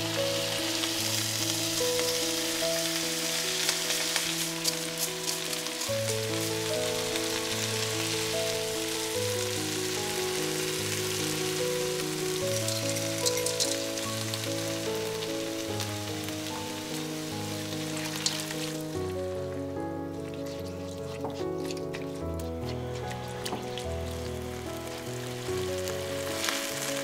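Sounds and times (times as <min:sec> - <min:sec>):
soft background music: 0:00.0 - 0:27.0
vegetables sizzling in a wok: 0:00.0 - 0:27.0.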